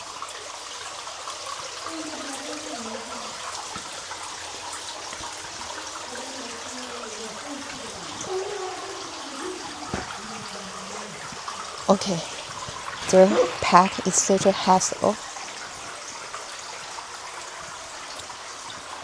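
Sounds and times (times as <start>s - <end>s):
running water trickling: 0.0s - 19.0s.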